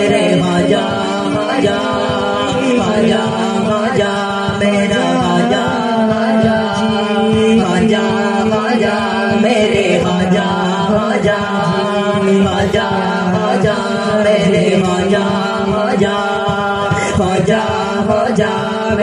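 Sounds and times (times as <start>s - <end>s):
hand drum beat: 0.0s - 19.0s
male chorus chanting: 0.0s - 19.0s
man singing lead: 0.0s - 19.0s.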